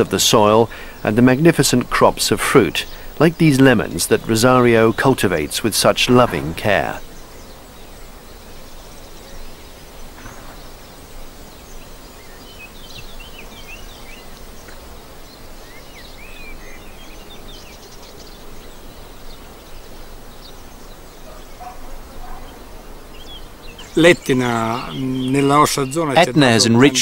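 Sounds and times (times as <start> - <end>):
birds chirping: 0.0 - 27.0
high bird trill: 0.0 - 27.0
outdoor ambient hiss: 0.0 - 27.0.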